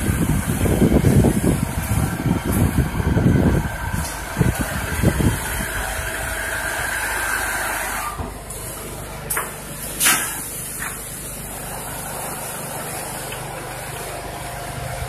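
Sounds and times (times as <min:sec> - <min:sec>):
quilting machinery running: 0:00.0 - 0:15.0.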